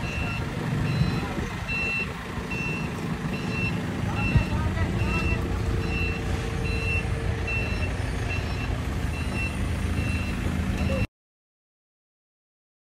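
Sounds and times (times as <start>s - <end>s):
forklift engine running: 0.0s - 11.1s
reverse alarm beeping: 0.0s - 11.1s.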